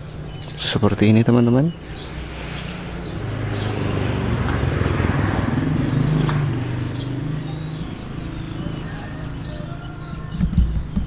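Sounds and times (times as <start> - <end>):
vehicle engine passing by: 1.4 - 10.4.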